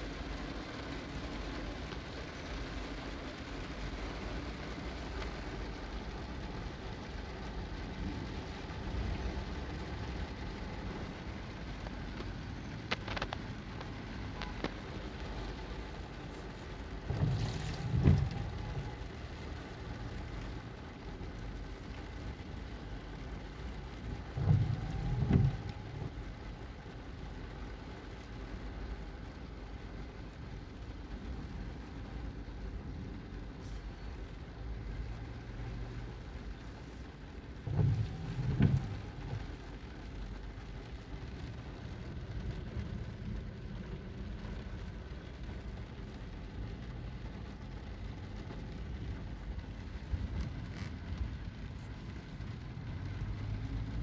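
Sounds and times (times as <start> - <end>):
road traffic: 0.0 - 54.0
steady rain: 0.0 - 54.0.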